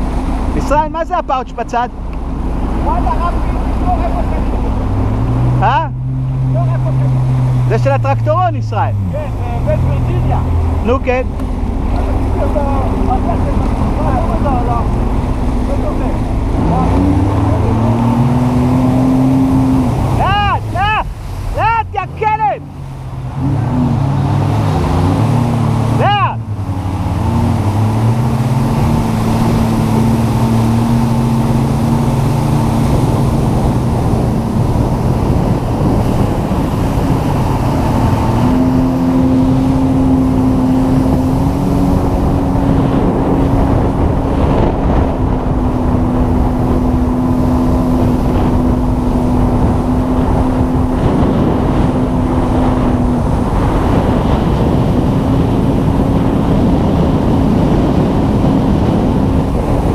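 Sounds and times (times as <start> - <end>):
watercraft engine running: 0.0 - 59.9.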